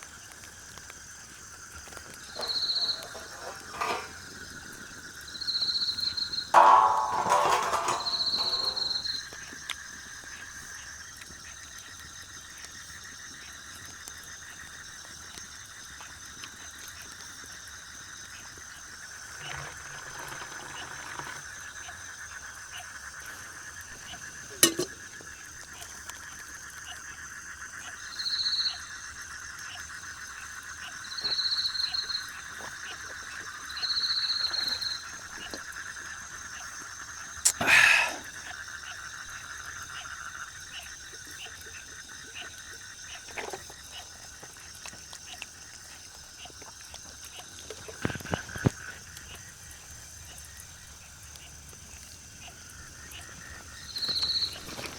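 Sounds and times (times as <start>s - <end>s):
frogs and insects calling: 0.0s - 54.9s.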